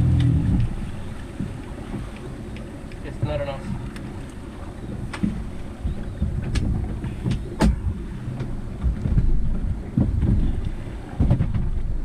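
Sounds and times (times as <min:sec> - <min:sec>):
boat motor rumble: 0:00.0 - 0:12.0
rushing water: 0:00.0 - 0:12.0
wind buffeting microphone: 0:00.0 - 0:12.0.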